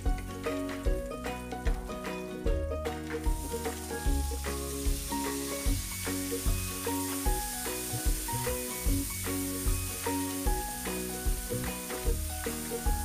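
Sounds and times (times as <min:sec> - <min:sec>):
background music with beat: 0:00.0 - 0:13.0
food sizzling in a wok: 0:00.0 - 0:13.0.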